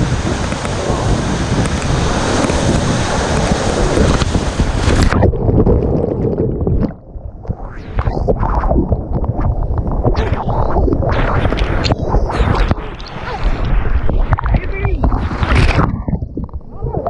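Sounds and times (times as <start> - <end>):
wind buffeting microphone: 0.0 - 6.8, 7.5 - 17.0
muffled splashing water: 0.0 - 17.0.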